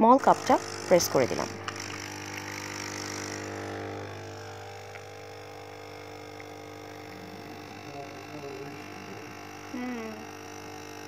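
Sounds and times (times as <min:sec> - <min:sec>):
espresso machine pump hum: 0:00.0 - 0:11.0.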